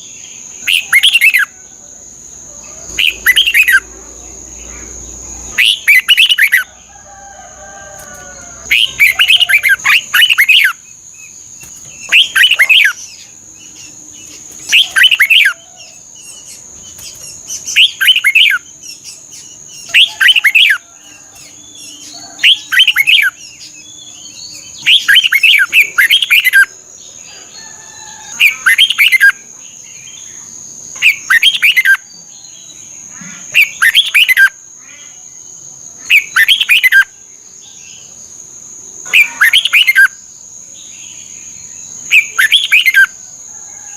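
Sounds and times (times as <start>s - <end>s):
bulbul singing: 0.0s - 1.6s, 2.5s - 6.8s, 8.0s - 27.5s, 28.2s - 43.2s.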